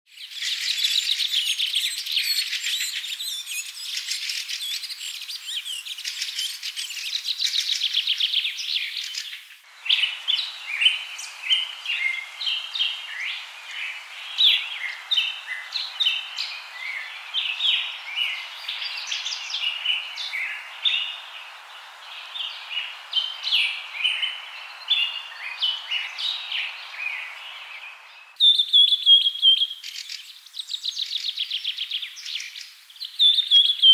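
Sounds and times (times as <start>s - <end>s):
birds chirping and trilling: 0.2s - 30.3s.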